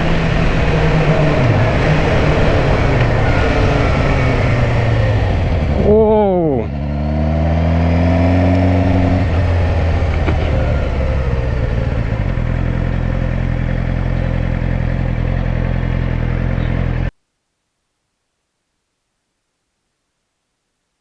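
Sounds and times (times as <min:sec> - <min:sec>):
motorcycle engine running: 0:00.0 - 0:17.1.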